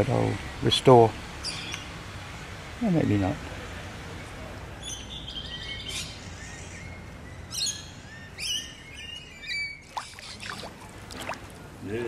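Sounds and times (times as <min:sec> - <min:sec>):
songbirds chirping and singing: 0:00.0 - 0:02.4, 0:04.2 - 0:11.8.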